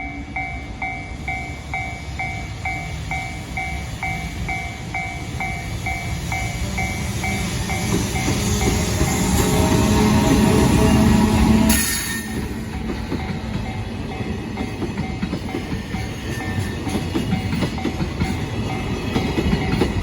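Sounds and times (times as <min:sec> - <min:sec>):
freight train rumbling: 0:00.0 - 0:20.0
level-crossing warning bell: 0:00.0 - 0:20.0.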